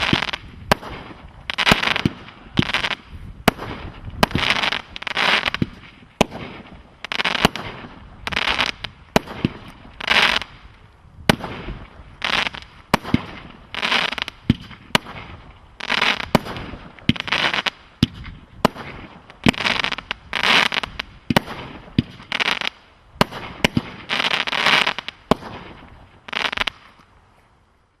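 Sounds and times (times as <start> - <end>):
fireworks cracking and bursting: 0.0 - 27.0.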